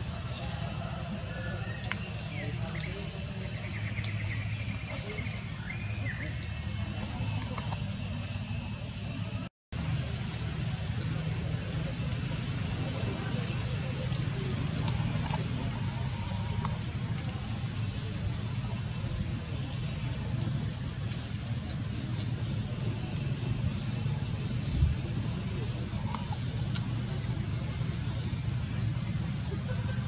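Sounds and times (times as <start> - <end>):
outdoor background rumble: 0.0 - 30.0.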